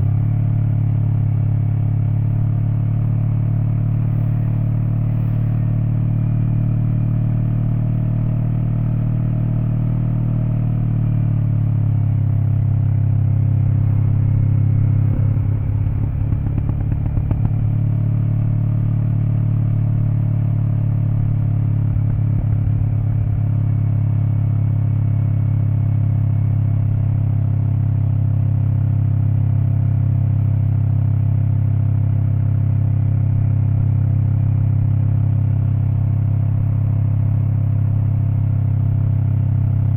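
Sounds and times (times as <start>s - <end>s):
engine rattling: 0.0s - 39.9s
motorcycle engine running: 0.0s - 39.9s.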